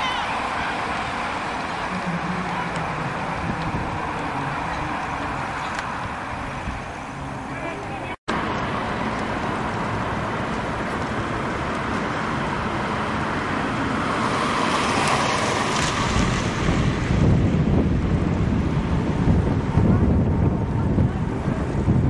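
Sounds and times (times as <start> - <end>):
wind buffeting the microphone: 0.9 - 8.1, 9.6 - 22.0.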